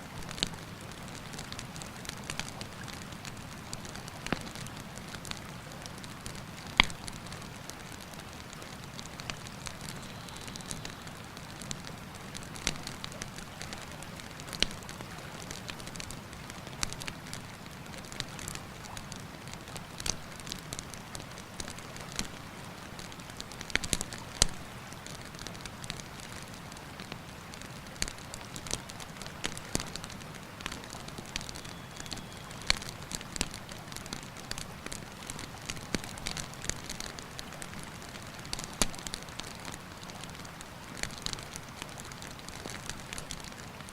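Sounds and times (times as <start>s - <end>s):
campfire crackling and popping: 0.1s - 43.9s.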